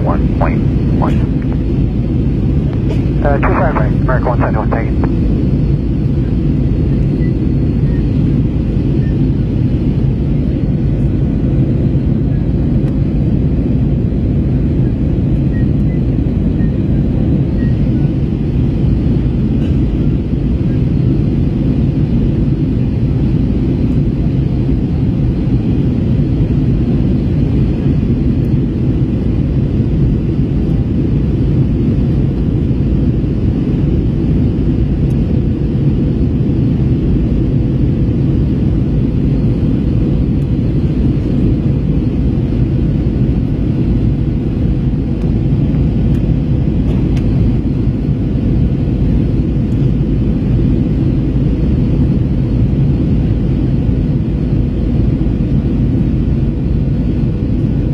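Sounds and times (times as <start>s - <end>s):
airplane cabin engine rumble: 0.0s - 57.9s.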